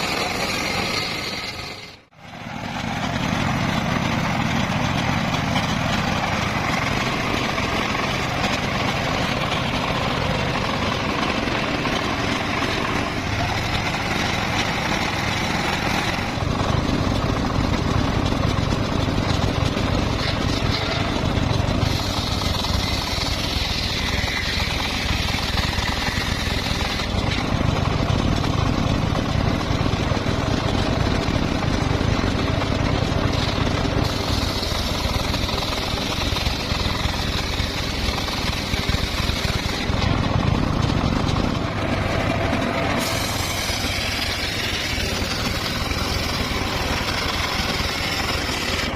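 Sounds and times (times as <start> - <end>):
circular saw ripping timber: 0.0 - 2.1, 2.8 - 48.9.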